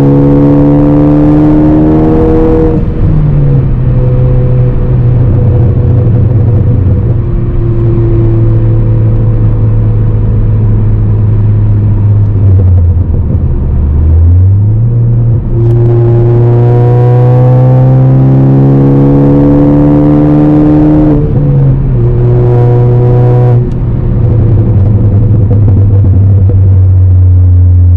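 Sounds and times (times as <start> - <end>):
car engine running under way: 0.0 - 27.9.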